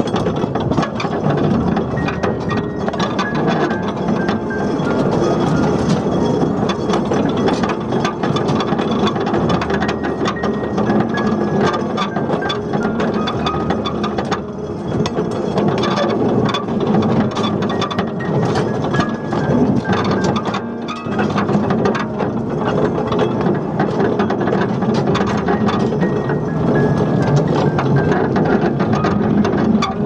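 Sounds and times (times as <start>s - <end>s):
train wheels clicking on rails: 0.0s - 30.0s.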